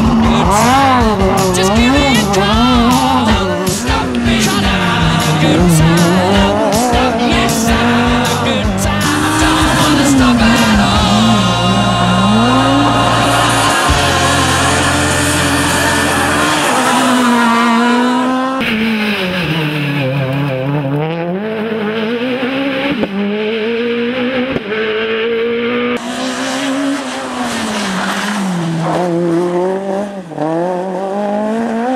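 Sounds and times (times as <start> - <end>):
rally car engines revving: 0.0 - 31.9.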